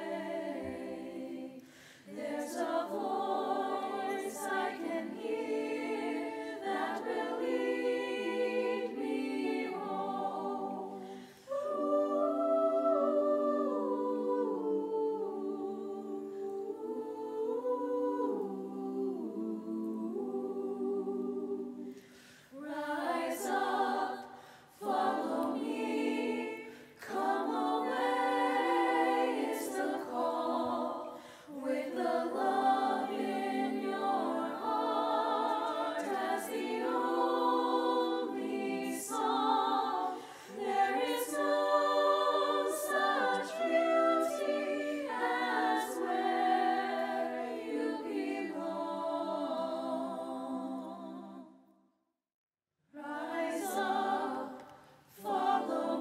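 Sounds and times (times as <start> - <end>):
a cappella choir singing: 0.0 - 51.8, 52.9 - 56.0.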